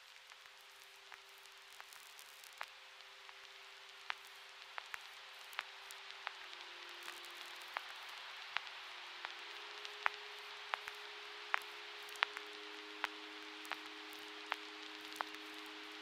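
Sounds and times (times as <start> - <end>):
record surface hiss: 0.0 - 16.0
vinyl clicks and pops: 0.2 - 16.0.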